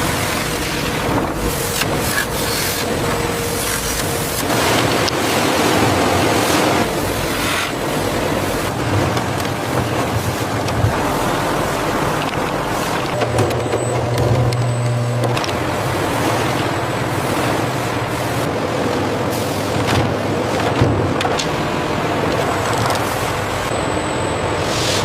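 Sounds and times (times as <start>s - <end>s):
factory machinery rushing din: 0.0s - 25.0s.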